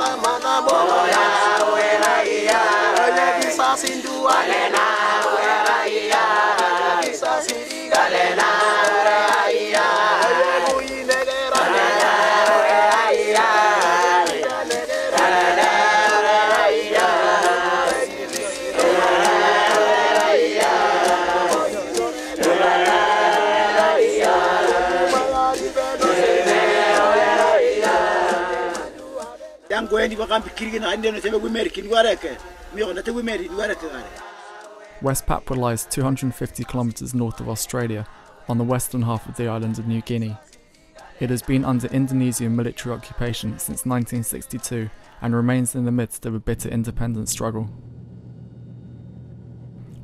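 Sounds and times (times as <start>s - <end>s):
group of men chanting: 0.0s - 43.9s.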